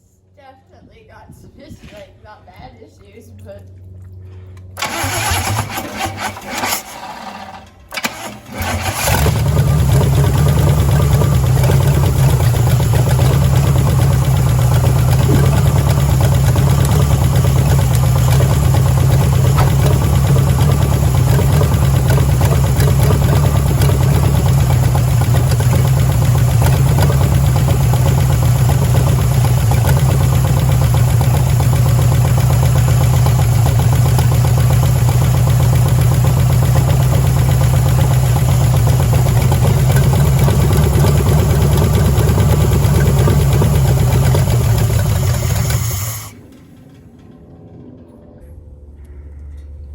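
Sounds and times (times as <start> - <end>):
engine starter cranking: 4.8 - 47.4
engine running loudly: 4.8 - 48.0.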